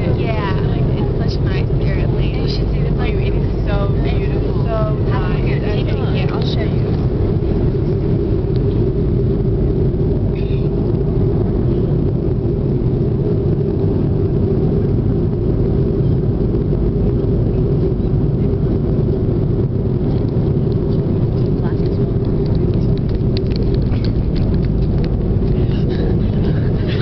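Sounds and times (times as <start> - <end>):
jet airliner cabin rumble: 0.0 - 27.0.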